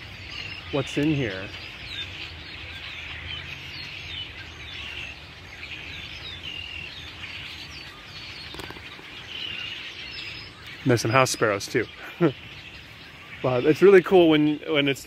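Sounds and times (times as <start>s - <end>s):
flock of songbirds chirping: 0.0s - 15.0s.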